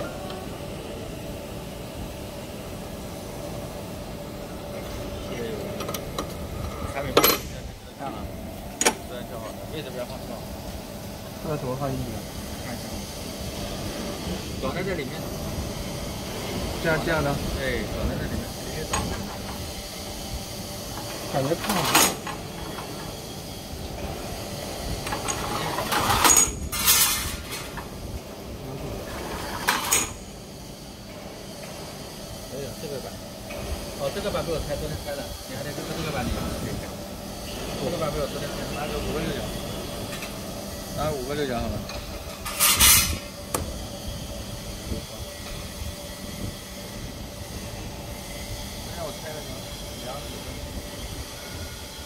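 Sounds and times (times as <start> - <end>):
grinding machine humming: 0.0 - 52.0.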